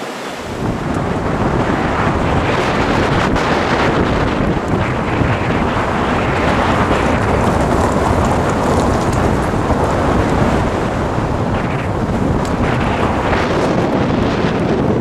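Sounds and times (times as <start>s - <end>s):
wind rushing over microphone: 0.0s - 15.0s
motorcycle running: 0.6s - 15.0s
tyres on gravel road: 2.4s - 15.0s.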